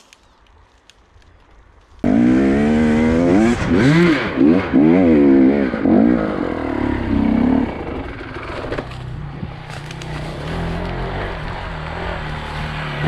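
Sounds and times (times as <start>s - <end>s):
dirt bike engine revving: 2.0s - 13.0s.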